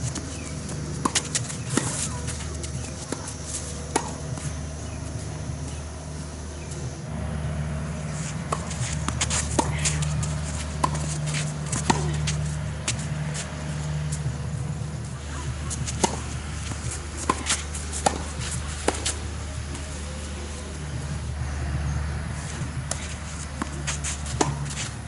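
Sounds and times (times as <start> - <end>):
tennis ball hitting rackets: 0.0 - 5.8, 8.0 - 14.4, 15.1 - 21.4, 22.4 - 25.0
steady low hum: 0.0 - 25.0.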